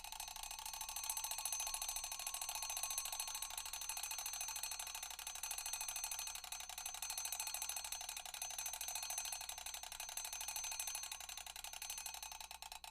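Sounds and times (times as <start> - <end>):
bell alarm clock ringing: 0.1 - 12.0.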